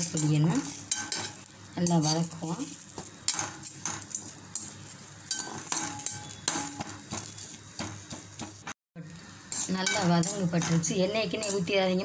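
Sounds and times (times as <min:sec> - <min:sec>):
metal clinking on pan: 0:00.0 - 0:08.2, 0:09.5 - 0:11.8
utensil stirring and scraping pan: 0:00.0 - 0:12.0.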